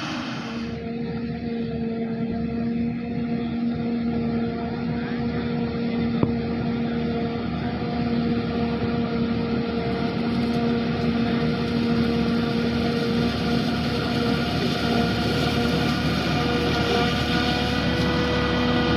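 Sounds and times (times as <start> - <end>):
heavy harvester engine drone: 0.0 - 18.9.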